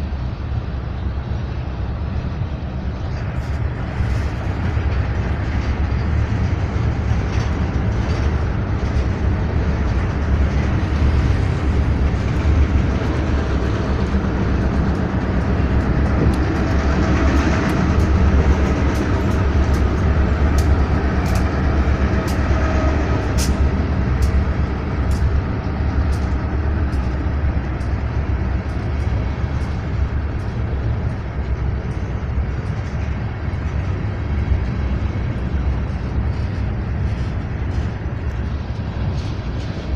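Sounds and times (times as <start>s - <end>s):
train wheels rumbling on rail: 0.0s - 39.9s
metallic clicks and clacks: 3.1s - 39.9s.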